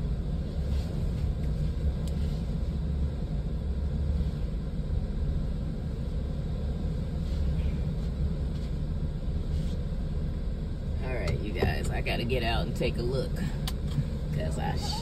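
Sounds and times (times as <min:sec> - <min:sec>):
van engine rumbling: 0:00.0 - 0:15.0.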